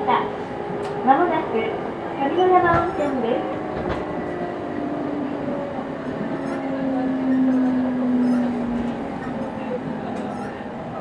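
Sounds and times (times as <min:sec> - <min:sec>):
train rail and running noise: 0:00.0 - 0:11.0.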